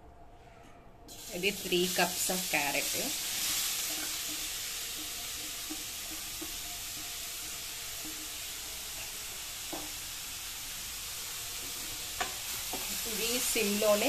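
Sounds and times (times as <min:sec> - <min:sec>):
carrot sizzling in hot fat: 0:01.1 - 0:14.0.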